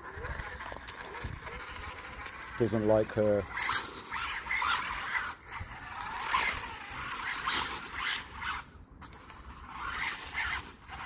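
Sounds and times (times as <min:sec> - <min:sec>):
toy car tyres scraping on ground: 0:00.0 - 0:11.0.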